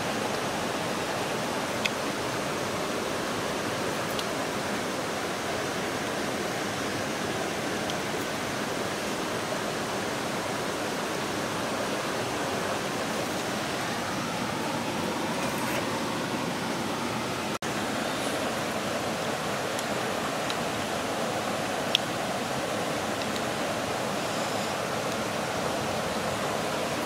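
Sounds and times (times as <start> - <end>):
stream water rushing: 0.0 - 27.0.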